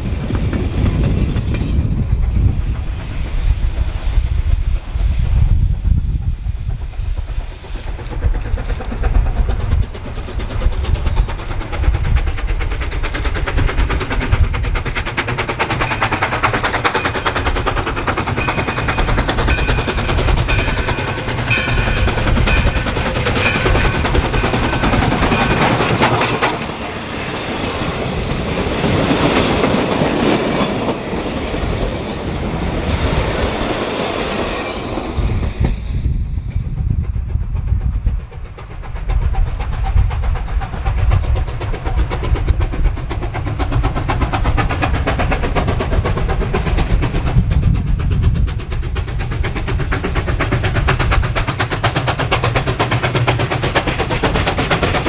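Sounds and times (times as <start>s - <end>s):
steam train clattering past: 0.0s - 55.0s.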